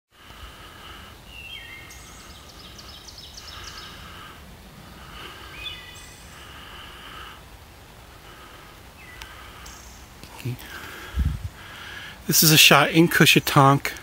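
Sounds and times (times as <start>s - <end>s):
background hiss: 0.1s - 14.0s.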